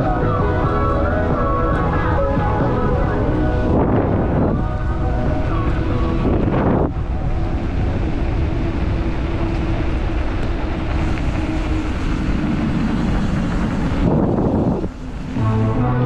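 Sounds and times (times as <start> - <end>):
wind on microphone: 0.0 - 15.9.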